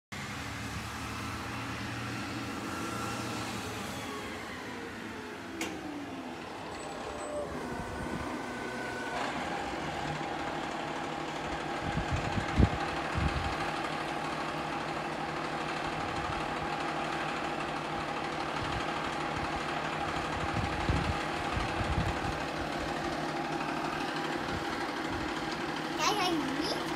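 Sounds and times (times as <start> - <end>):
garbage truck engine running: 0.2 - 26.9.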